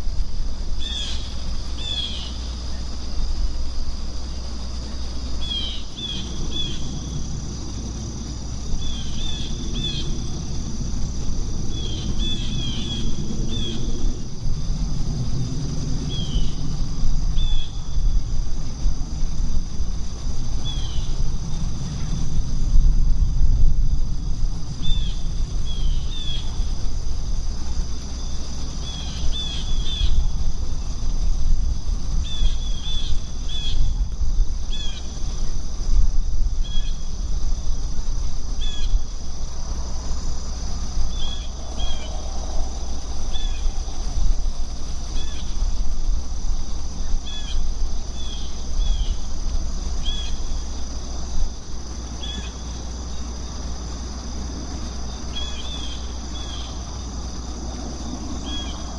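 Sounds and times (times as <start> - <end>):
insects trilling: 0.0 - 58.9
low rumble: 3.2 - 50.6.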